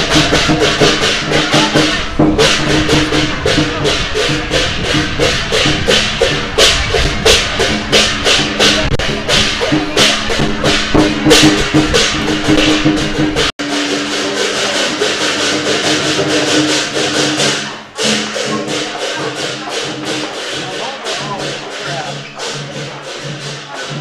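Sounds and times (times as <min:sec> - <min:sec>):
drum and cymbals fast rhythm: 0:00.0 - 0:24.0.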